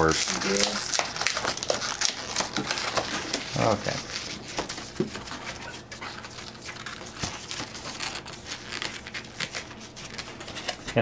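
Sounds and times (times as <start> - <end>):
balloons rubbing crinkly: 0.0 - 11.0
balloons squeaking: 0.0 - 11.0.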